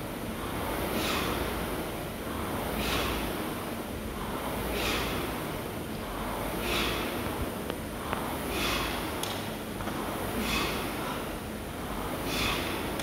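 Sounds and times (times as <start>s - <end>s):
rowing machine fan whooshing: 0.0s - 13.0s
heavy breathing: 0.3s - 13.0s.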